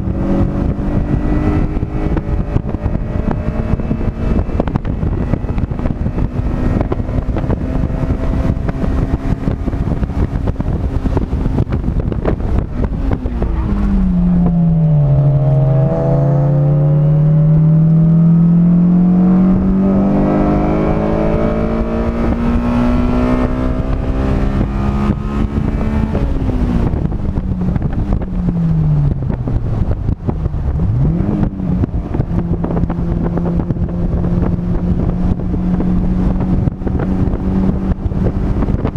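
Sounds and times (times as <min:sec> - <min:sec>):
race car engine revving: 0:00.0 - 0:38.9
wind and road noise: 0:00.0 - 0:38.9.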